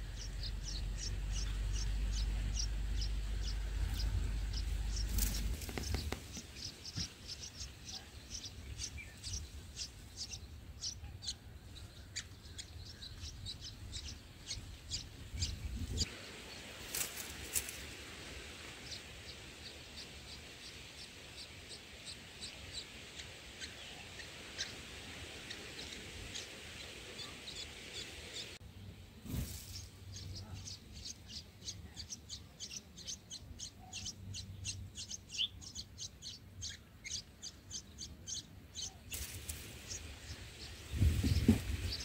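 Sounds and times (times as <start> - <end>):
nestlings chirping: 0.0 - 42.0.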